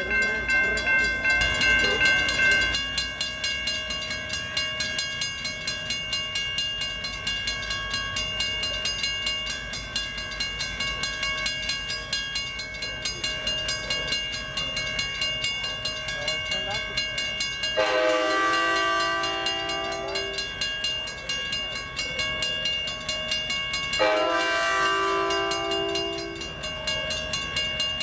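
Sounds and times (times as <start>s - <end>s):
crossing warning bell ringing: 0.0s - 28.0s.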